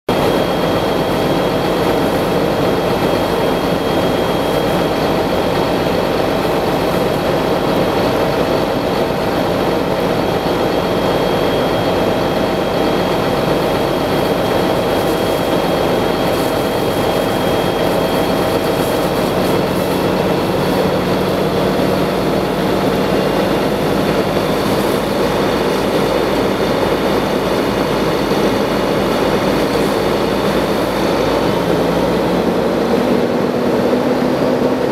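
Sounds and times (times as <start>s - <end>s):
fire engine pump running: 0.1s - 34.9s
water spraying from nozzles: 0.1s - 34.9s.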